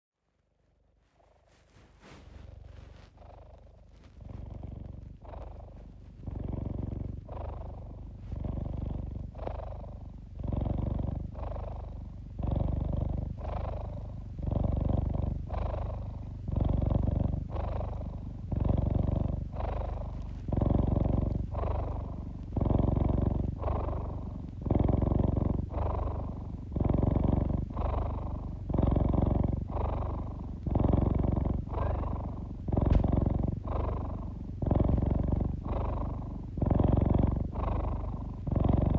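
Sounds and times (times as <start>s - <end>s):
cat purring: 0.4s - 38.9s.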